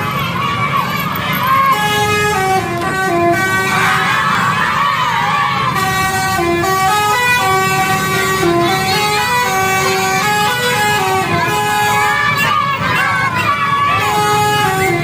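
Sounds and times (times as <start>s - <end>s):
bus air horn playing a melody: 1.5s - 15.0s.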